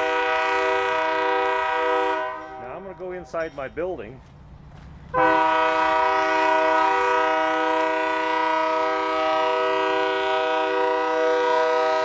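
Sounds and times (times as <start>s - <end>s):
locomotive air horn: 0.0s - 2.8s, 5.1s - 12.0s.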